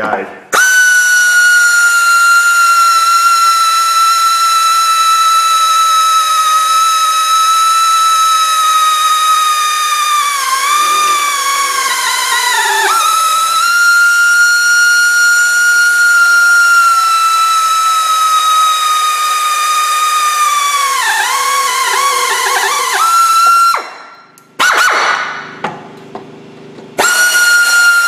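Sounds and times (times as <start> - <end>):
power drill drilling into steel: 0.6 - 23.8, 27.0 - 28.0.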